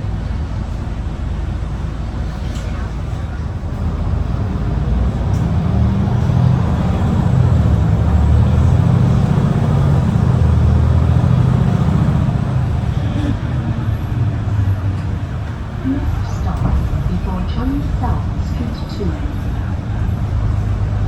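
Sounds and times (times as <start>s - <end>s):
bus engine droning under load: 0.0s - 21.0s.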